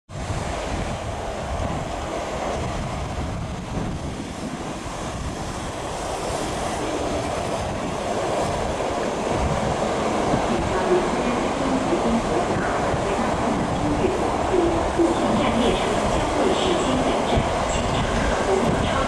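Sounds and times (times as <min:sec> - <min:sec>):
train wheels rumbling on rails: 0:00.1 - 0:19.0.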